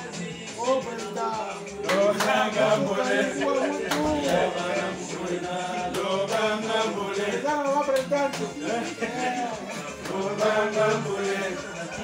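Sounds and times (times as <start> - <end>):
group singing and chanting: 0.0 - 12.0
music: 0.0 - 12.0
sharp beats: 0.0 - 12.0.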